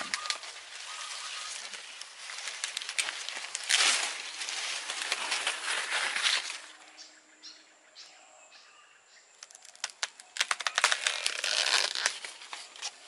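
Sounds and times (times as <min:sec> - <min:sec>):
corn leaves rustling and crackling: 0:00.0 - 0:06.9, 0:09.4 - 0:13.0.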